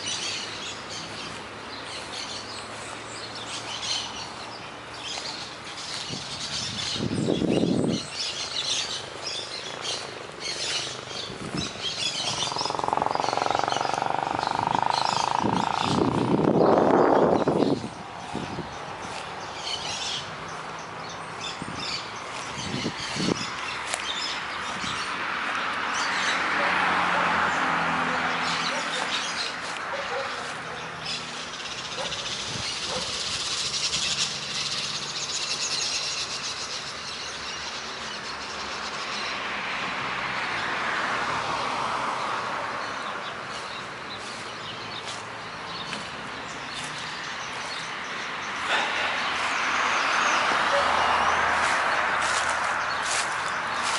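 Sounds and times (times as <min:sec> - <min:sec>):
small birds chirping: 0:00.0 - 0:26.6, 0:28.2 - 0:39.6, 0:42.2 - 0:53.9
city traffic: 0:00.0 - 0:53.9
vehicle passing: 0:00.0 - 0:53.9.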